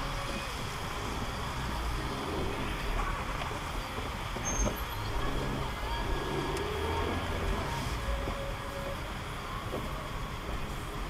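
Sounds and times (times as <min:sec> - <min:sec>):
low engine rumble: 0:00.0 - 0:11.0
tyres hissing on wet asphalt: 0:00.0 - 0:11.0.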